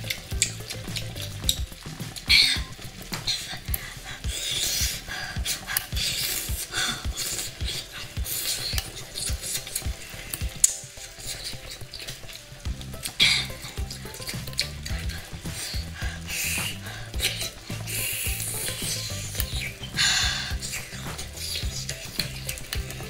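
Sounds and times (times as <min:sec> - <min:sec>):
wet chewing and slurping: 0:00.0 - 0:23.0.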